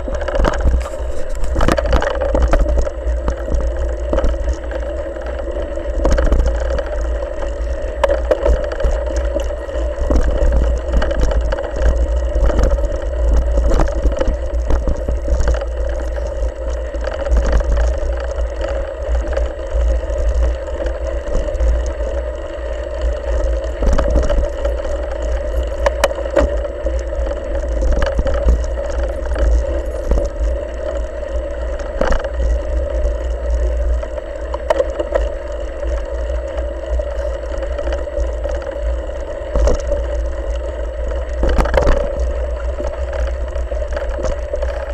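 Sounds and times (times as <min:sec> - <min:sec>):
bike rattles and knocks: 0:00.0 - 0:44.9
bike rumbling on dirt trail: 0:00.0 - 0:44.9.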